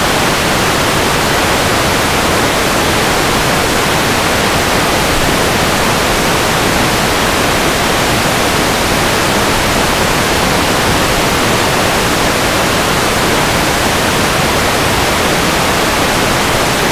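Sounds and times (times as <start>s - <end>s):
loud static hiss: 0.0s - 16.9s.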